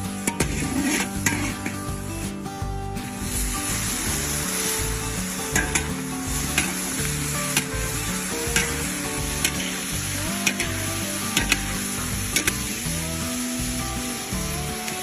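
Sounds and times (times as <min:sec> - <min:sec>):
food sizzling in hot oil: 0:00.0 - 0:15.0
quiet background music: 0:00.0 - 0:15.0.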